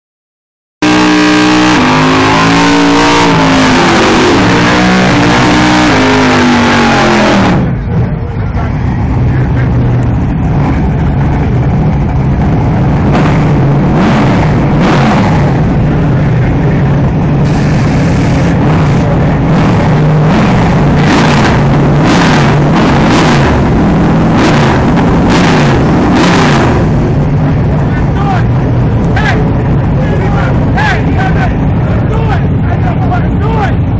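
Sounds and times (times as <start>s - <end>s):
drag car engine revving: 0.8s - 33.9s.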